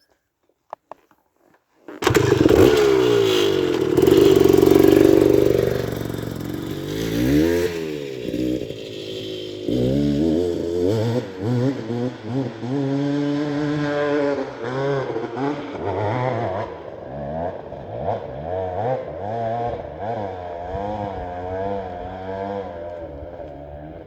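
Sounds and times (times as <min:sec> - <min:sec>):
off-road engine revving hard: 0:02.0 - 0:24.0.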